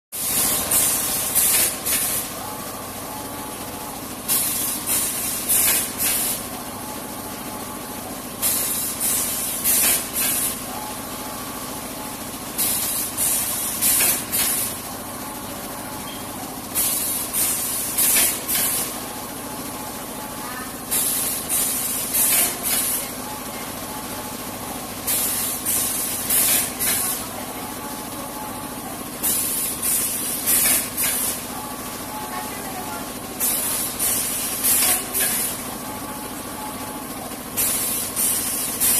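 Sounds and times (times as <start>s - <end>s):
machine mechanical hum: 0.2s - 38.9s.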